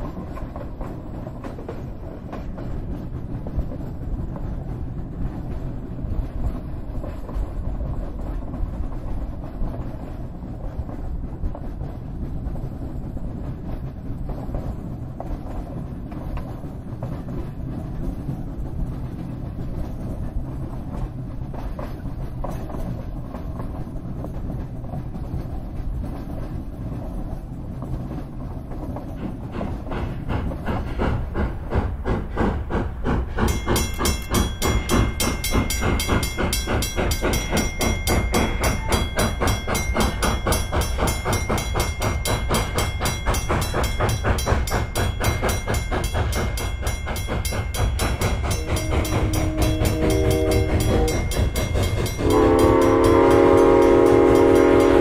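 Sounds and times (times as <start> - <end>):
steam locomotive exhaust rumble: 0.0 - 55.0
train wheels on rails: 0.0 - 55.0.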